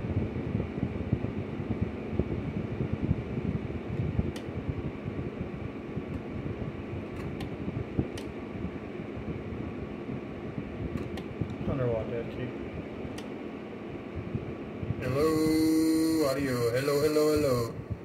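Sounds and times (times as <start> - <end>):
fan-like whir with low hum: 0.0 - 18.0.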